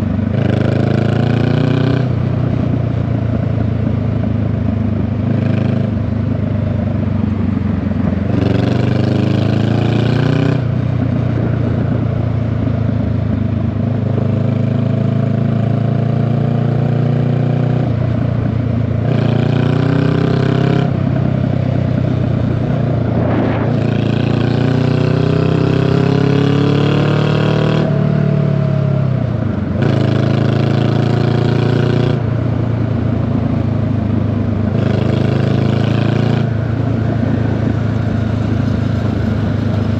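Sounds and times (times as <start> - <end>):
motorcycle exhaust accelerating: 0.0 - 39.9.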